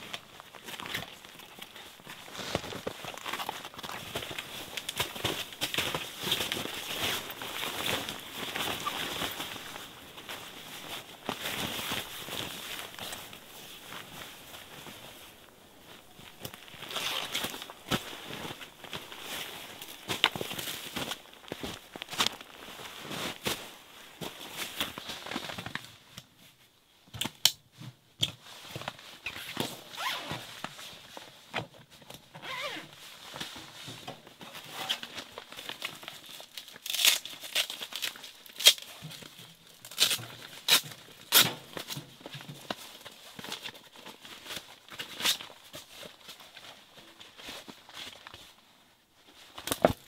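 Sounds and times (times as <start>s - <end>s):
clothing and tent fabric rustling: 0.0s - 27.0s, 27.7s - 50.0s.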